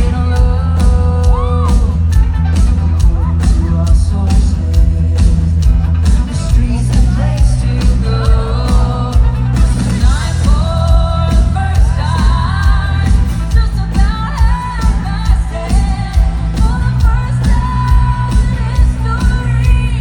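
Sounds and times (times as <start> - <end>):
live pop band: 0.0 - 20.0
person singing: 0.0 - 20.0.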